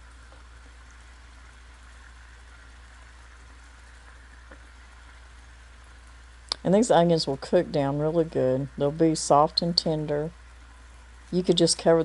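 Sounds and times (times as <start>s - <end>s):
constant low hum: 0.0s - 12.0s
room noise hiss: 0.0s - 12.0s.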